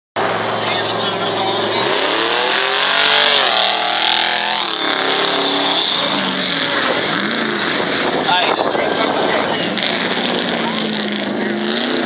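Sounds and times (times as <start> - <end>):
truck engine revving: 0.2 - 12.0.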